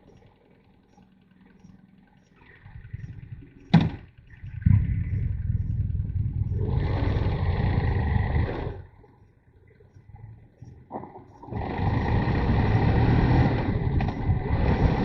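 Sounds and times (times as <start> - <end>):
motorcycle engine running: 0.0 - 10.8, 11.4 - 15.0.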